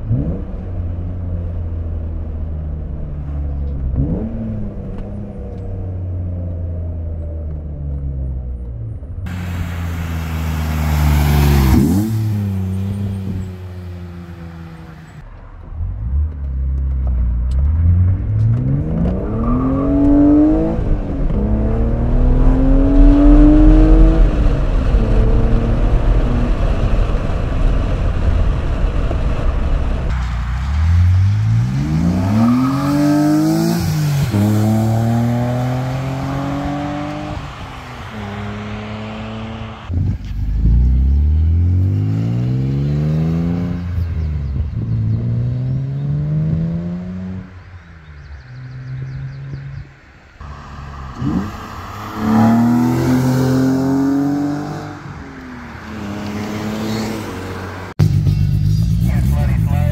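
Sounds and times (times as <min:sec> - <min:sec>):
car engine accelerating hard: 0:09.3 - 0:59.9.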